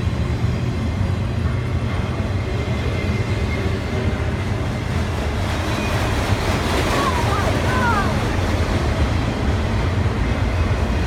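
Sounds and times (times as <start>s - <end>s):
freight train rumbling by: 0.0s - 11.0s.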